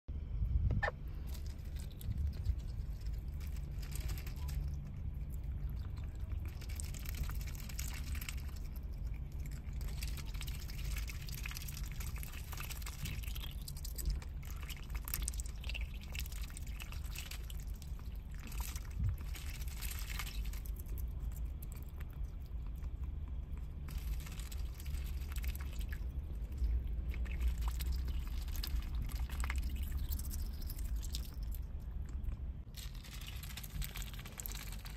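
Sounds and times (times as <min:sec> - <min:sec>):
steady low hum: 0:00.1 - 0:34.9
duck dabbling and drinking water: 0:00.8 - 0:34.9
water splashes and drips: 0:01.2 - 0:34.9.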